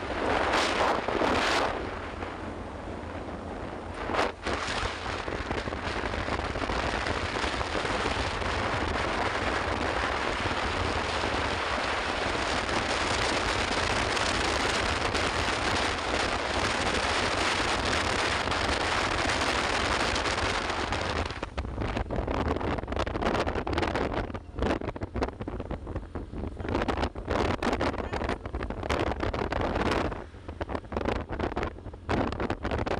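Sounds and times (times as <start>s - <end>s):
road noise rumble: 0.0s - 32.9s
wind on microphone: 0.0s - 32.9s.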